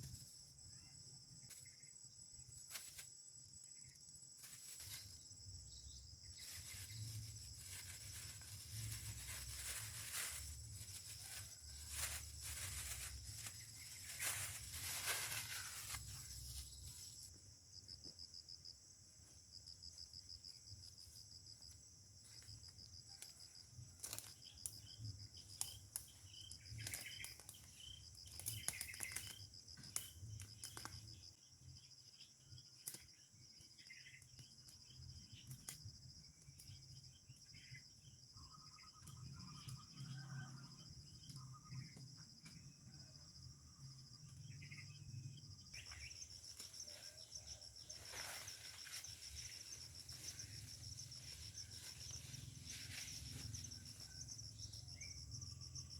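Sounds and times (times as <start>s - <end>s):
insects trilling: 0.0s - 55.9s.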